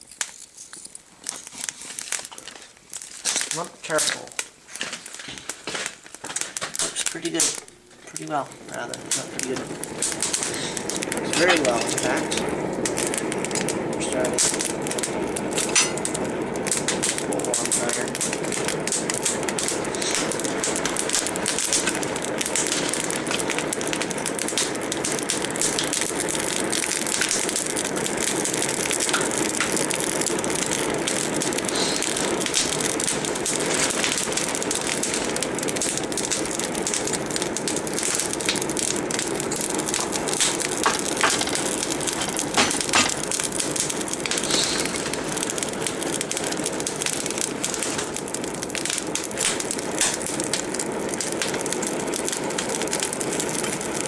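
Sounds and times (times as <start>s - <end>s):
forge fire roaring and crackling: 0.0s - 54.0s
loud pops: 1.2s - 54.0s.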